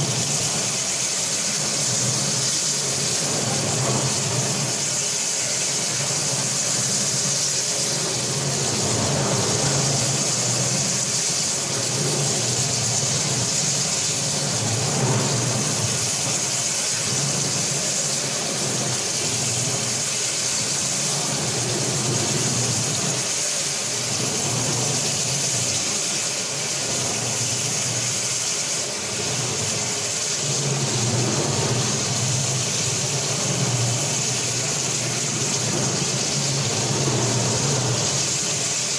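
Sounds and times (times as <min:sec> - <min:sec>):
floor grinding machine: 0:00.0 - 0:38.9.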